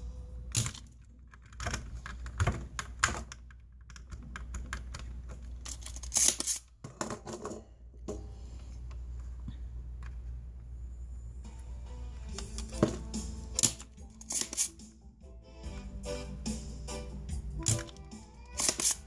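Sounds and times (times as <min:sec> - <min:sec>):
steady low hum: 0:00.0 - 0:05.9, 0:07.4 - 0:17.9.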